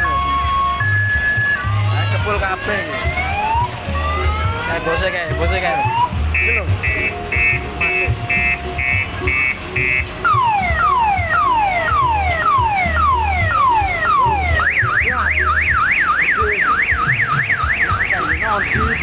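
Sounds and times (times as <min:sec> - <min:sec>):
electronic alarm siren: 0:00.0 - 0:19.0.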